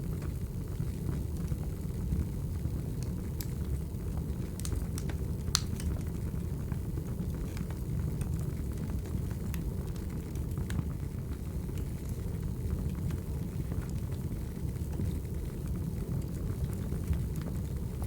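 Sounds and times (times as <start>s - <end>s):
fire popping: 0.0s - 18.0s
wood fire crackling: 0.0s - 18.0s.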